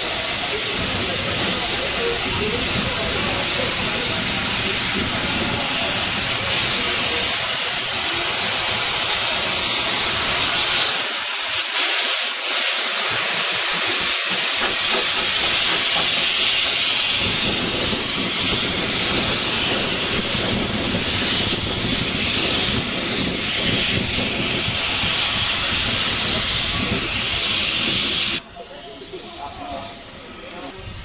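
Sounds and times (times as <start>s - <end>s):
steam hissing loudly: 0.0s - 31.0s.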